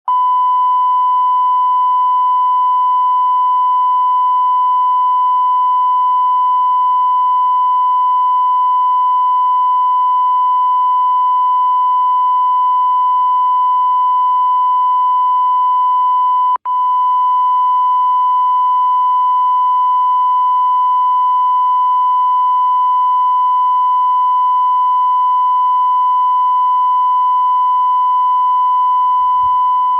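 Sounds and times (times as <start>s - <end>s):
continuous electronic beep tone: 0.1s - 29.9s.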